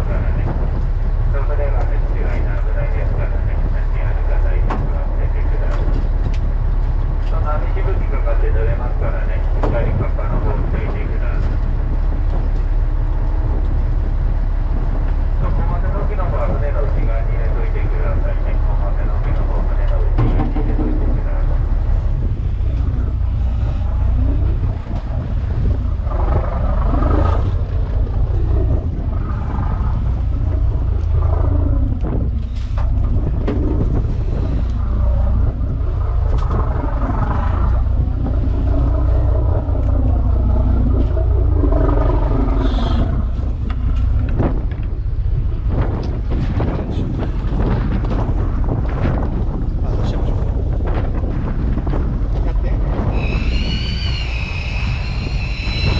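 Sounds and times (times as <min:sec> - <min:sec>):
boat engine droning: 0:00.0 - 0:55.9
wind noise on microphone: 0:00.0 - 0:55.9.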